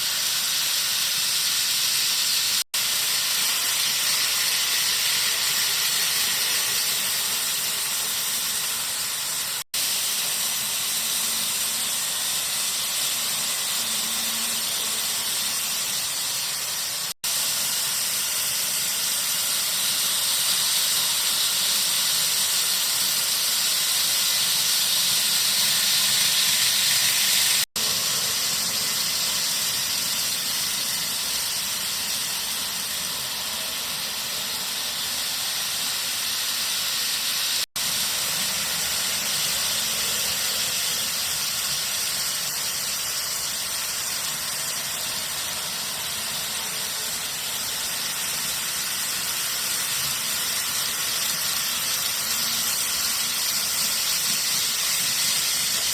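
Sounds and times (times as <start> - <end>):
model train wheels on rails: 0.0 - 55.9.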